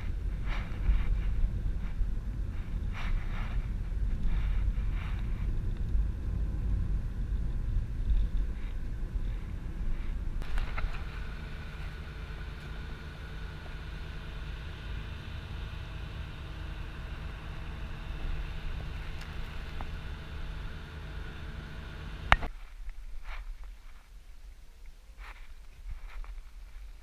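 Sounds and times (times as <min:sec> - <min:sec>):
ferry engine droning: 0:00.0 - 0:22.5.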